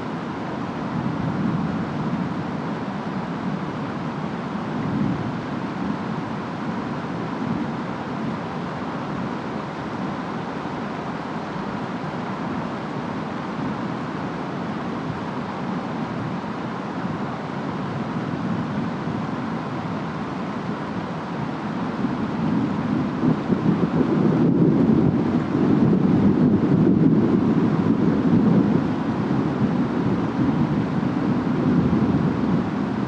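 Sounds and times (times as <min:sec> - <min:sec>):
storm rain and wind: 0:00.0 - 0:33.0.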